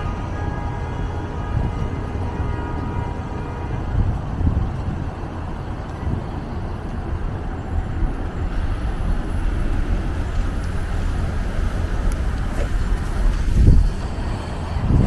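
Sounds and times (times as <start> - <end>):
vehicles rumbling by: 0.0 - 15.0.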